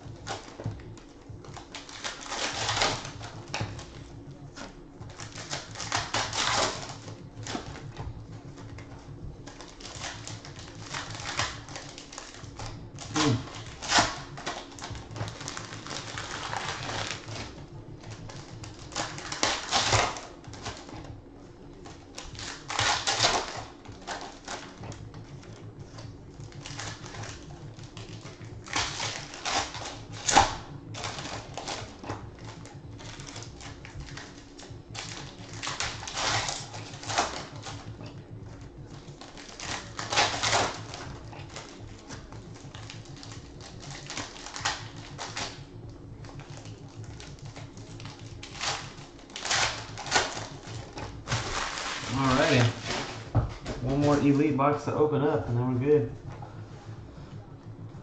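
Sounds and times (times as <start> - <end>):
foil wrappers crinkling: 0.0 - 57.8.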